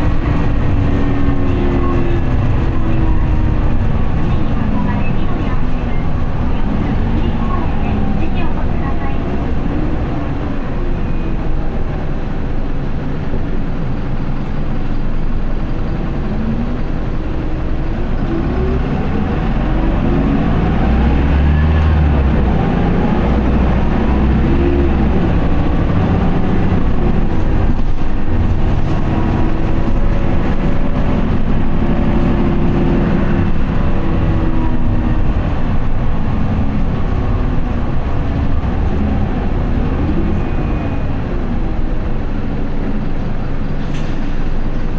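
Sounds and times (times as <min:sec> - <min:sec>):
bus diesel engine accelerating: 0:00.0 - 0:44.9.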